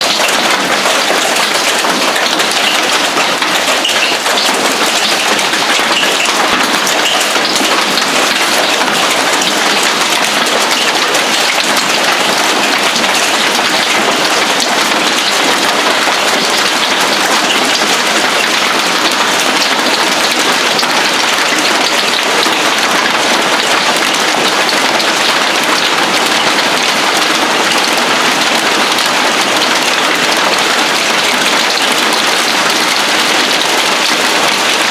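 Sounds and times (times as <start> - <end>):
hail clattering on a roof: 0.0 - 34.9.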